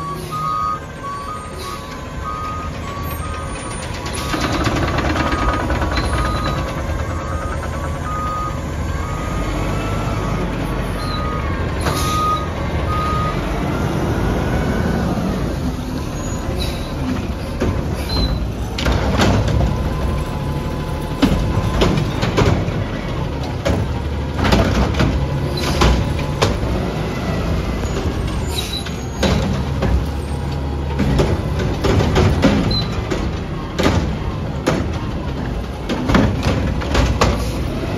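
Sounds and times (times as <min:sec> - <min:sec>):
carts banging and clattering: 0:00.0 - 0:37.9
garbage truck engine running: 0:00.0 - 0:37.9.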